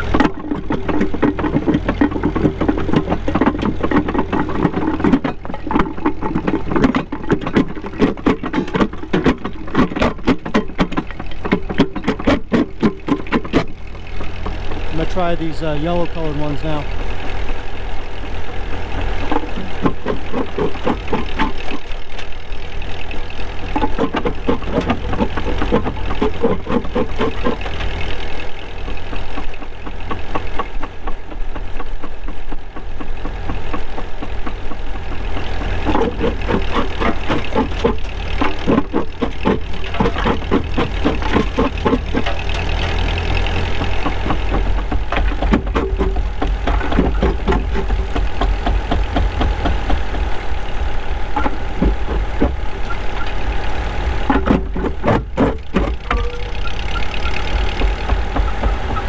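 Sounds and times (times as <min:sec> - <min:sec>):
jaw crusher crushing rock: 0:00.0 - 0:59.0
tractor engine running: 0:00.0 - 0:59.0.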